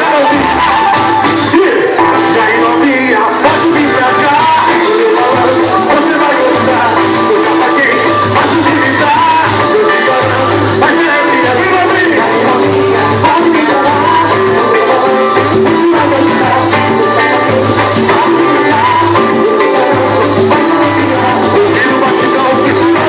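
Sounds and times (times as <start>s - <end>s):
band playing samba rhythm: 0.0s - 23.0s
bass: 0.0s - 23.0s
shaker percussion: 3.4s - 23.0s.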